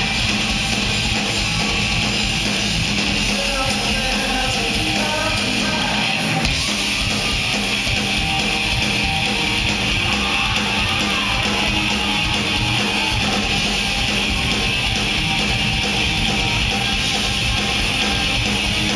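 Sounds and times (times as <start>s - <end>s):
drums: 0.0s - 18.9s
electric guitar: 0.0s - 18.9s.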